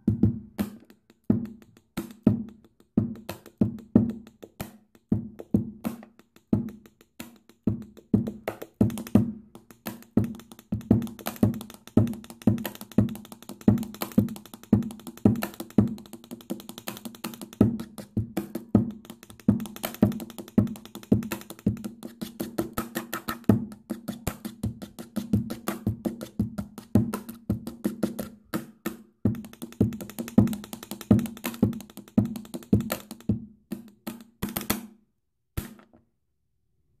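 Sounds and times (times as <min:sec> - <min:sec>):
markers tapping on a tabletop: 0:00.6 - 0:34.9.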